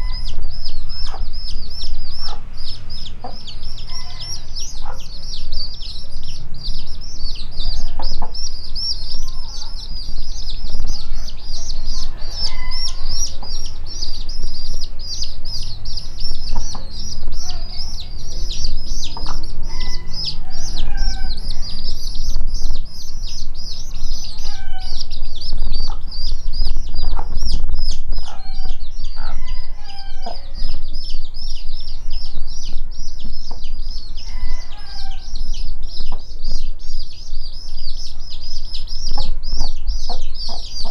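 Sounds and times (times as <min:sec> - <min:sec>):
chicks peeping: 0:00.0 - 0:40.9
hen clucking: 0:00.0 - 0:40.9
steady low rumble: 0:00.0 - 0:40.9.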